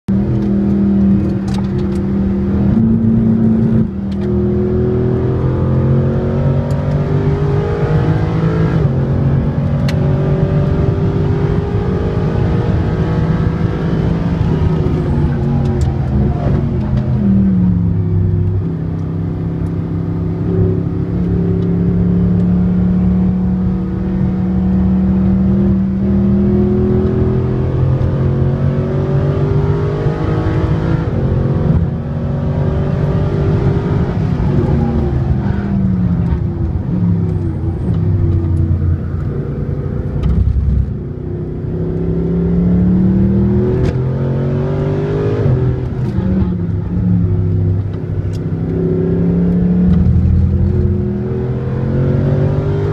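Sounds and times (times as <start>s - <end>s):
car engine revving in cabin: 0.1s - 52.9s.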